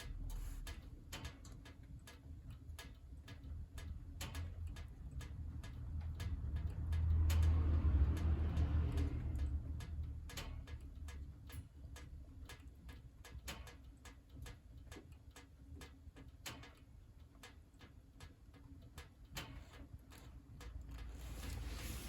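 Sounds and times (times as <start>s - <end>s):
wood crackling in a stove: 0.0s - 22.0s.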